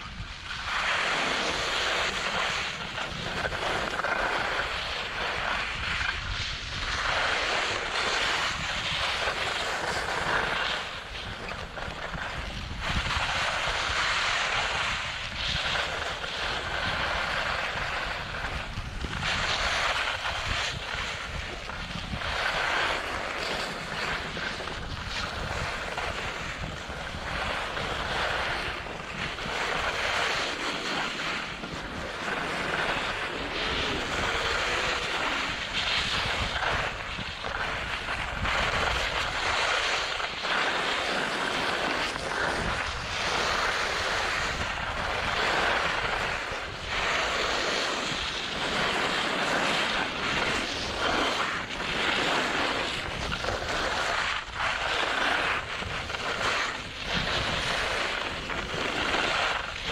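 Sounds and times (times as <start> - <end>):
skis scraping over packed snow: 0.0 - 59.9
wind rumbling on microphone: 0.0 - 59.9.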